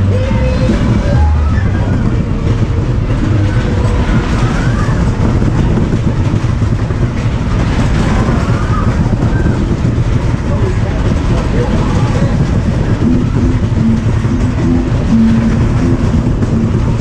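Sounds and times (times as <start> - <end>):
ride wheels rumbling on track: 0.0 - 17.0.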